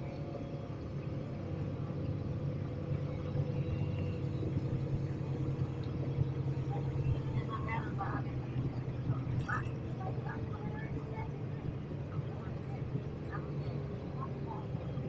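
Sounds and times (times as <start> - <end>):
vehicle interior low rumble: 0.0 - 15.0.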